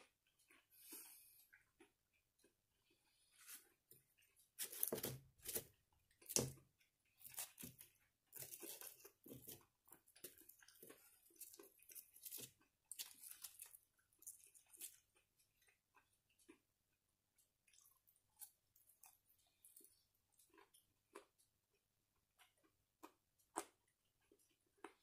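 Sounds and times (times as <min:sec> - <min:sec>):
chewing crunchy fried food: 0:00.0 - 0:25.0.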